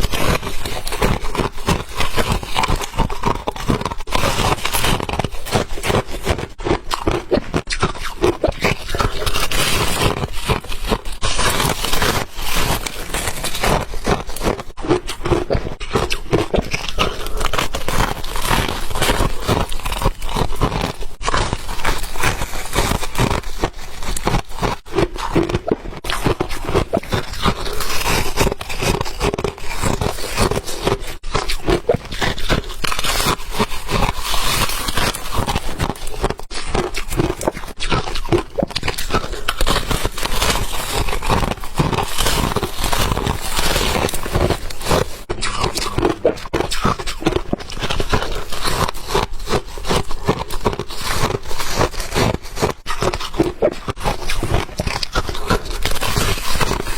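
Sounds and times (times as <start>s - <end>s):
ice being chewed: 0.0s - 56.9s.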